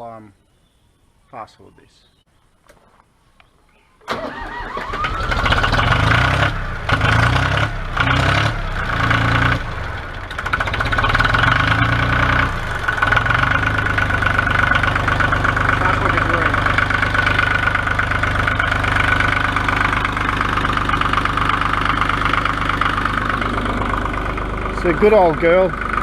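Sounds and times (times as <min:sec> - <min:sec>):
diesel tractor engine starting: 0:04.0 - 0:26.0.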